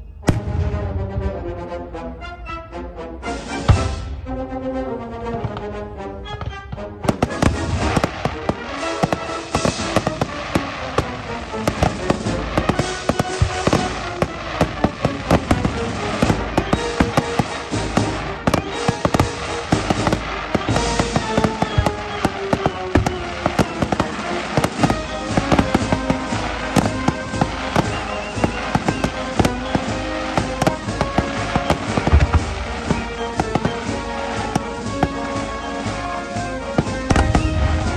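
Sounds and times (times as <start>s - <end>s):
fireworks bangs and crackles: 0.0s - 1.6s, 3.3s - 4.6s, 5.2s - 37.9s
music playing: 0.0s - 37.9s.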